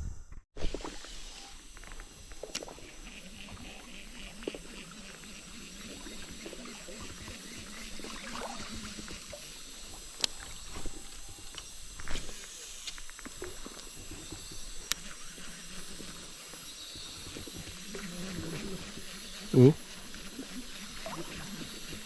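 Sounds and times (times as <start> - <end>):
insects droning: 0.0 - 22.0
forest stream trickling: 0.7 - 22.0.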